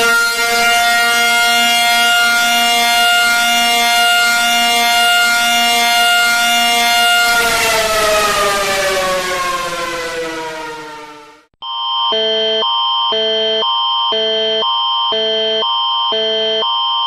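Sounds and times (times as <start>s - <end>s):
warning siren: 0.0s - 17.0s.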